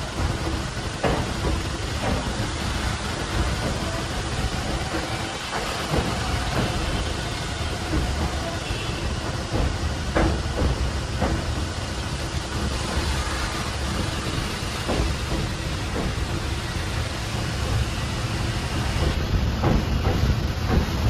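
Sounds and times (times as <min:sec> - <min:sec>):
sharp knocks and clanks: 0:00.0 - 0:21.0
train rumbling and rushing: 0:00.0 - 0:21.0.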